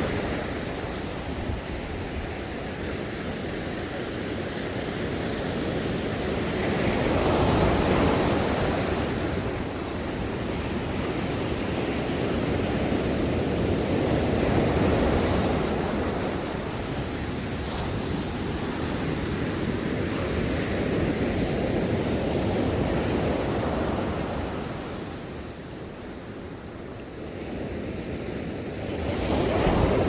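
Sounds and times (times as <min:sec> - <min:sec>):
ocean waves washing ashore: 0:00.0 - 0:30.0.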